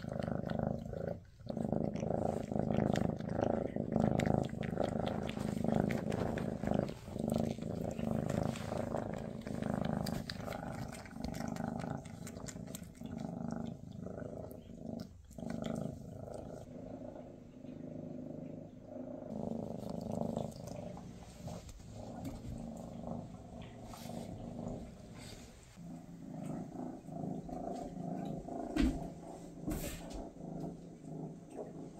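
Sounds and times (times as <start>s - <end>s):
cat purring: 0.0s - 31.9s.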